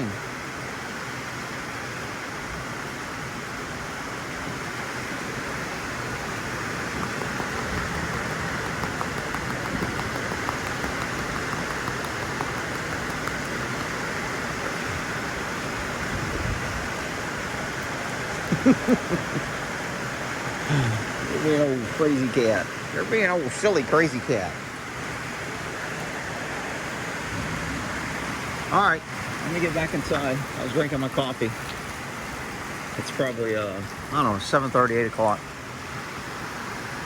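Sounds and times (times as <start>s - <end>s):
light rain hissing: 0.0s - 37.0s.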